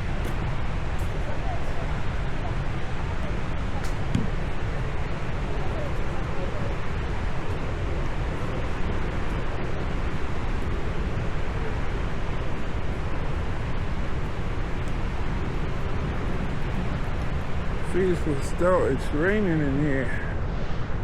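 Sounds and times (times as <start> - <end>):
heavy rain falling: 0.0 - 20.2.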